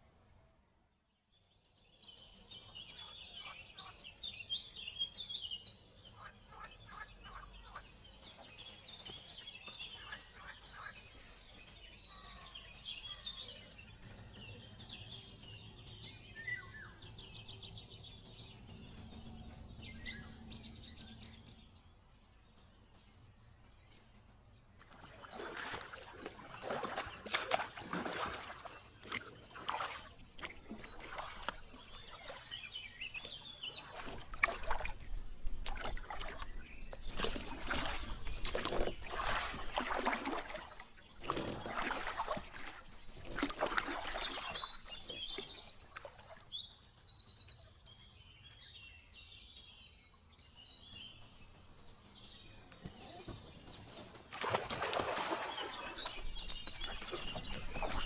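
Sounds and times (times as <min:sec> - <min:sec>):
birds chirping and singing: 0:02.0 - 0:58.0.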